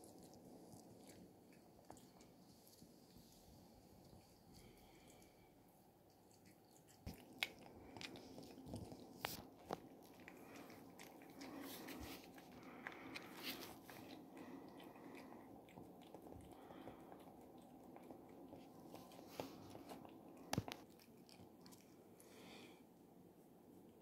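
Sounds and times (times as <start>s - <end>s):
cat chewing: 0.0s - 22.9s.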